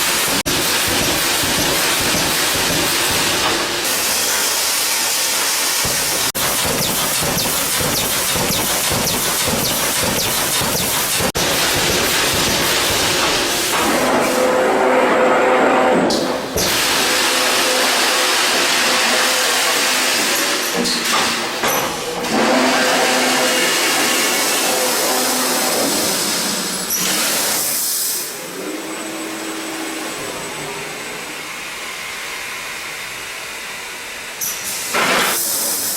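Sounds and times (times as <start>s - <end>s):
industrial machine humming: 0.0s - 34.4s.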